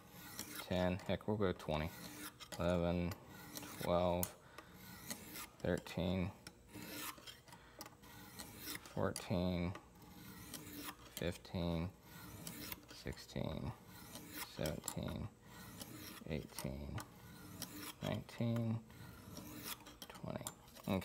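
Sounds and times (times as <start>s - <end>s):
stone rasping on knife edge: 0.0s - 21.0s.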